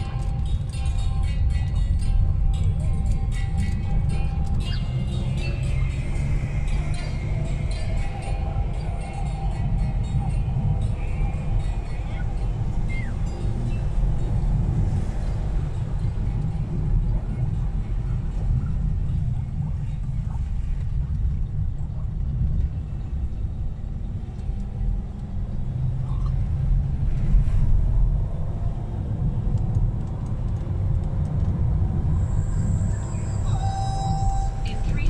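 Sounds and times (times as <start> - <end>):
car cabin road roar: 0.0 - 35.0.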